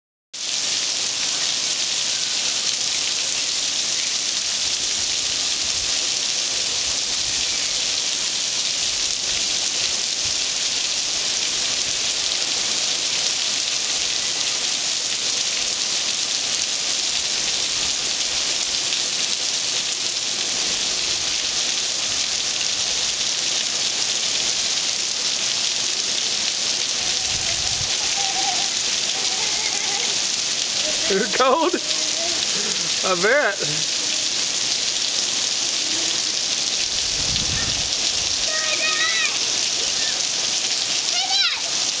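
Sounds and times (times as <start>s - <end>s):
rain on pavement and leaves: 0.4s - 42.0s.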